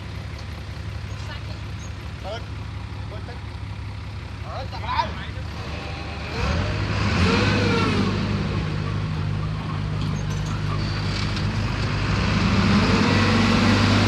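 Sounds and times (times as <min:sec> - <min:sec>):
heavy machinery diesel engine drone: 0:00.0 - 0:14.0.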